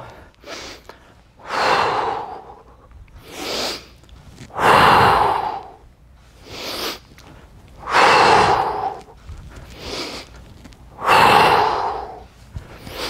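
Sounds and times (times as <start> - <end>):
man breathing loudly: 0.0 - 13.0.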